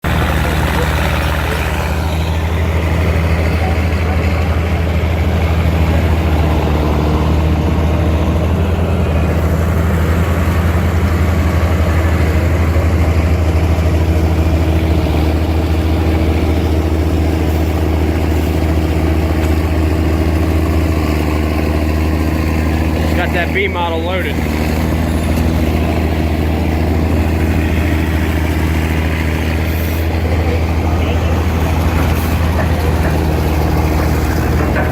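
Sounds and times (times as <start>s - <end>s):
heavy equipment engine humming: 0.0s - 34.9s.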